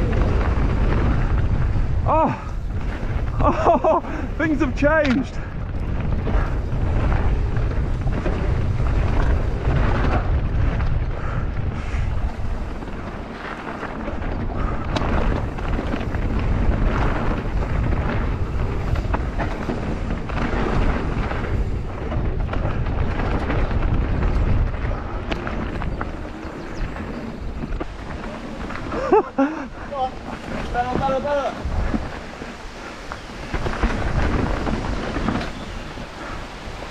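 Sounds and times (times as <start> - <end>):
bike tyres rattling over ground: 0.0 - 36.9
wind buffeting microphone: 0.0 - 36.9.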